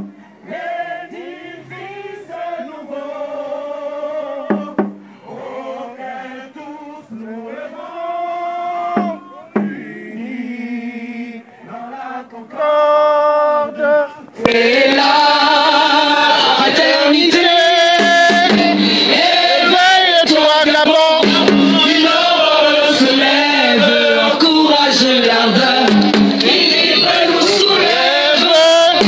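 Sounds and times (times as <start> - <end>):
group singing in unison: 0.0 - 29.0.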